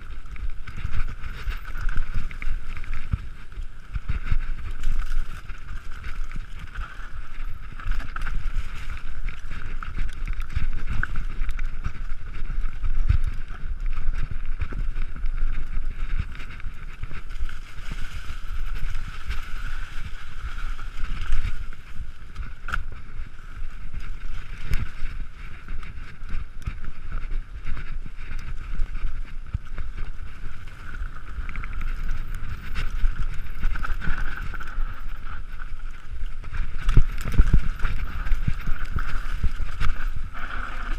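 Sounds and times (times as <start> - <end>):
bike clattering and rattling: 0.0 - 40.9
wind rumble on microphone: 0.0 - 40.9.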